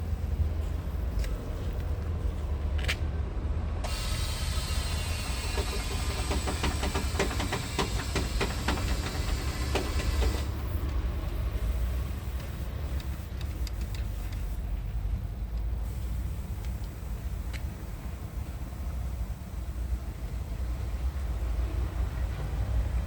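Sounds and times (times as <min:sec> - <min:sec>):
diesel engine rumbling: 0:00.0 - 0:23.0
hiss: 0:03.8 - 0:23.0.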